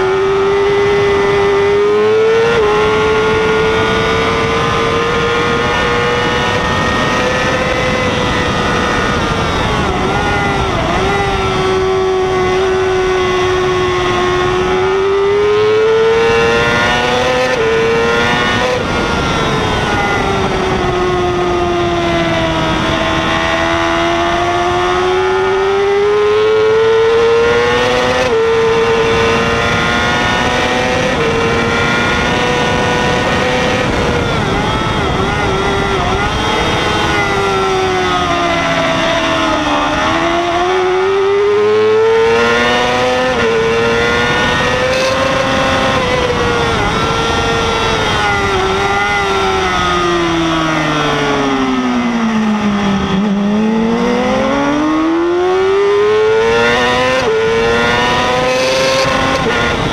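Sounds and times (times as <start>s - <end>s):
motorcycle engine at race speed: 0.0s - 59.9s
wind rush: 0.0s - 59.9s.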